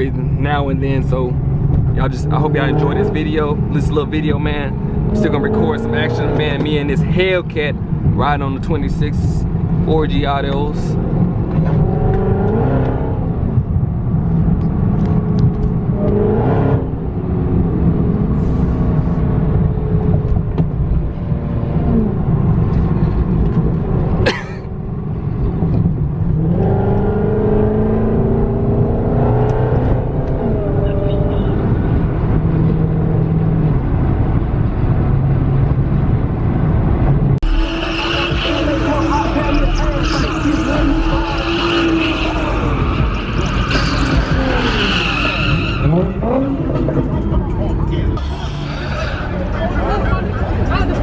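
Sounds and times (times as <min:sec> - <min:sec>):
car engine revving and accelerating: 0:00.0 - 0:51.0.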